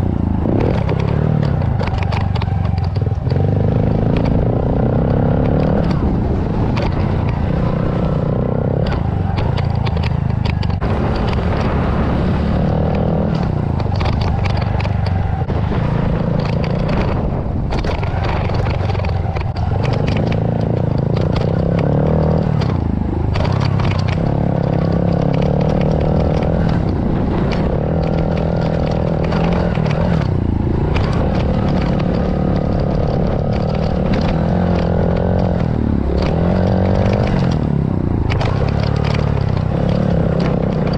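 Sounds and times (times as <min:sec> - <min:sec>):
bike knocks and rattles: 0:00.0 - 0:40.9
motorbike engine revving: 0:00.0 - 0:40.9.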